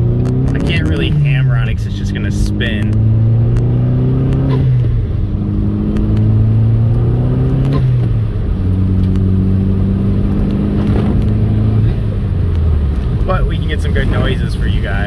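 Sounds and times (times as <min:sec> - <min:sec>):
car engine under throttle: 0:00.0 - 0:15.0.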